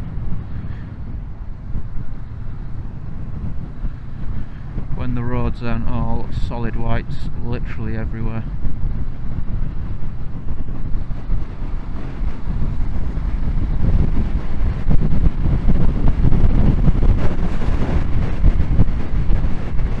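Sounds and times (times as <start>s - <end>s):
motorcycle engine running: 0.0s - 7.4s, 8.4s - 20.0s
wind rushing over microphone: 0.0s - 20.0s.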